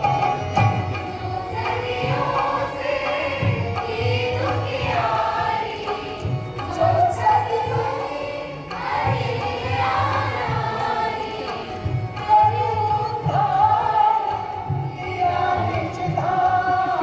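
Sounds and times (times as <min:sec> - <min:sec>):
group of voices singing: 0:00.0 - 0:17.0.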